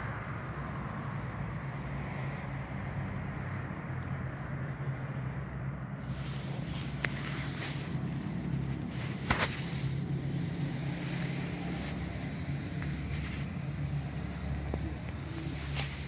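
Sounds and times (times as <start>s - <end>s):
traffic drone: 0.0s - 16.0s.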